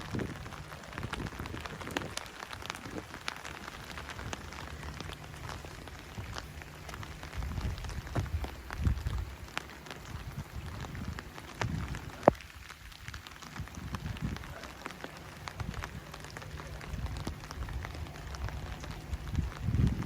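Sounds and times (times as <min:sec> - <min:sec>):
low rumble: 0:00.0 - 0:20.0
raindrops ticking: 0:00.0 - 0:20.0
steady rain: 0:00.0 - 0:20.0.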